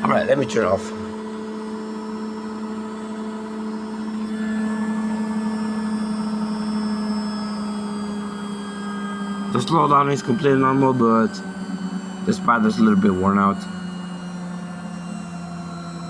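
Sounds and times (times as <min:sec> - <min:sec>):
washing machine running down: 0:00.0 - 0:16.0.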